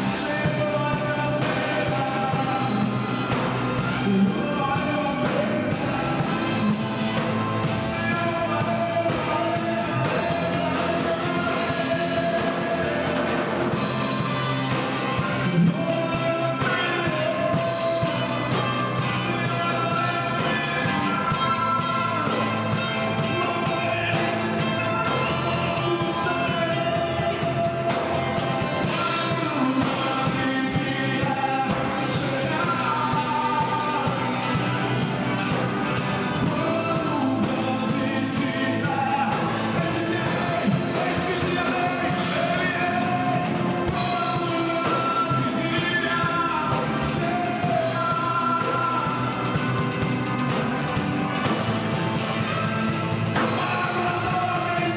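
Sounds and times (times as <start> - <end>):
person singing: 0.0 - 54.9
worship band playing: 0.0 - 54.9.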